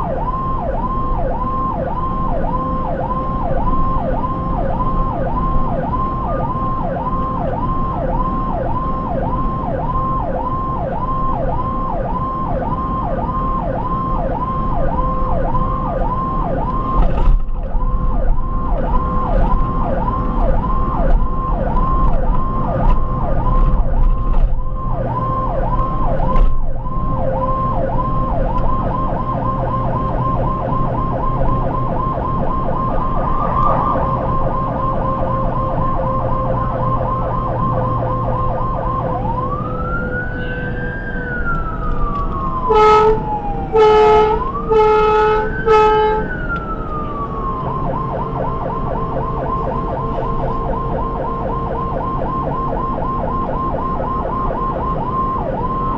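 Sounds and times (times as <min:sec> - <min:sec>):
ambulance siren yelping: 0:00.0 - 0:55.9
engine and road rumble: 0:00.0 - 0:55.9.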